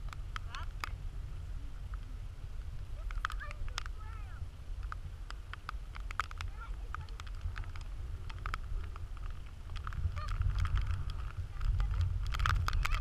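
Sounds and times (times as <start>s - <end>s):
light clicks and ticks: 0.0s - 1.0s, 2.7s - 13.0s
wind rumbling on microphone: 0.0s - 13.0s.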